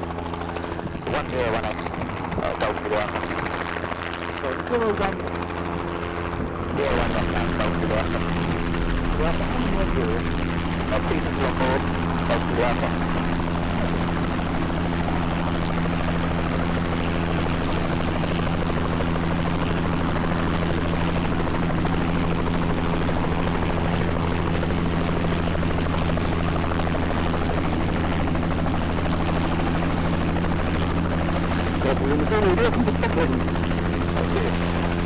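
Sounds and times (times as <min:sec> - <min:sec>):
helicopter rotor and engine: 0:00.0 - 0:35.0.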